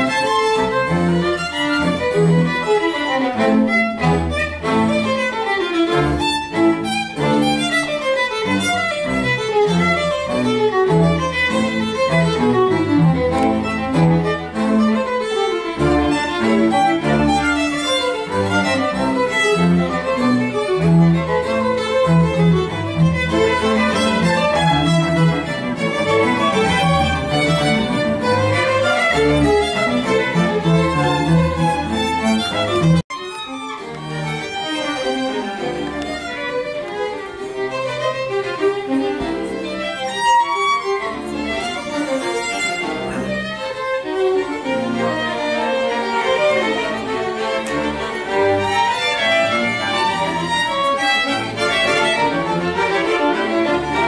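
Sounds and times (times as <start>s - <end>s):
string ensemble playing: 0.0s - 54.0s.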